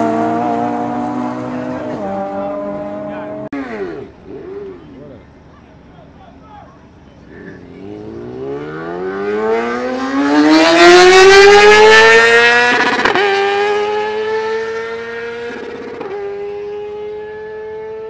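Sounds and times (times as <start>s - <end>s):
racing engine accelerating: 0.0s - 5.1s, 7.3s - 18.0s.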